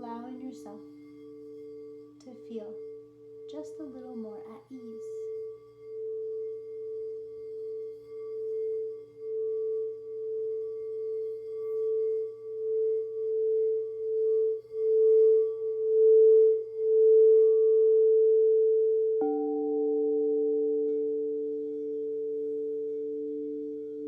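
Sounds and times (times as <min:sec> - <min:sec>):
singing bowl ringing: 0:00.0 - 0:24.0.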